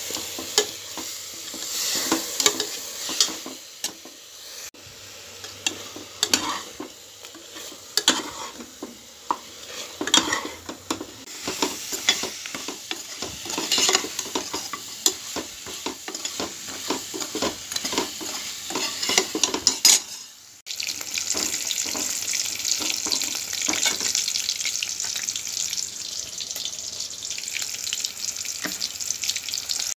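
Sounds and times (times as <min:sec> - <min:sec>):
chicken sizzling in hot oil: 0:00.0 - 0:29.9.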